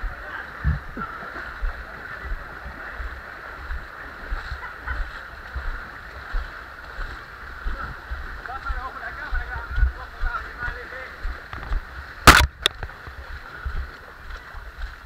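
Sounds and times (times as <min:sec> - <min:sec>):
feet splashing in water: 0:00.5 - 0:15.0.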